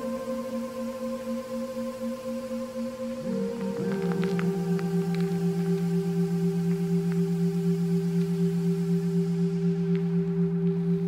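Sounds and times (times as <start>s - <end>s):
ambient drone music: 0.0s - 11.0s.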